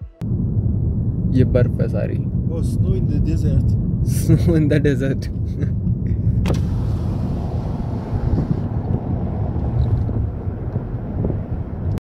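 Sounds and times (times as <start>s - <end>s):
car road and engine rumble: 0.2s - 12.0s
wind noise: 0.2s - 12.0s.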